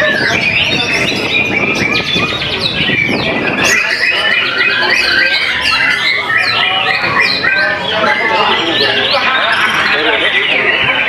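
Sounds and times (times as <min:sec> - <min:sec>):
bird singing: 0:00.0 - 0:11.0.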